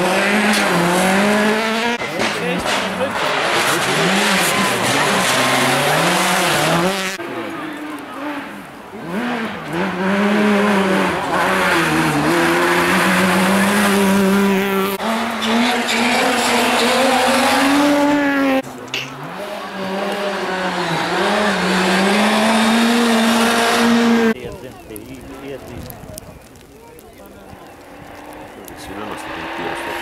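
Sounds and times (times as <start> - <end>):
rally car engine revving: 0.0 - 24.4, 27.5 - 30.0.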